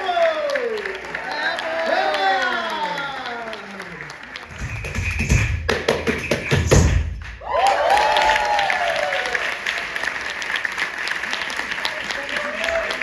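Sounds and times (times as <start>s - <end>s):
audience applause: 0.0s - 4.7s, 7.2s - 13.0s.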